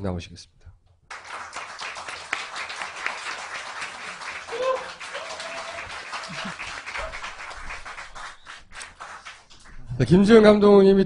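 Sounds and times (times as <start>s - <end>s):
small audience applauding: 1.1s - 10.0s.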